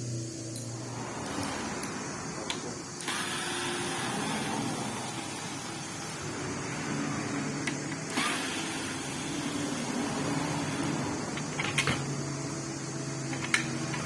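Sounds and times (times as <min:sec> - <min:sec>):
machine whirring: 0:00.0 - 0:14.0.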